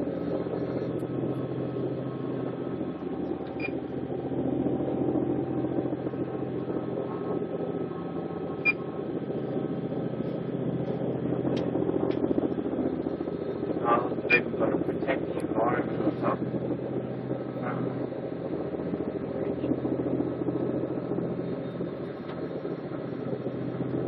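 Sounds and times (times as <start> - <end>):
boat diesel engines droning: 0.0 - 24.0.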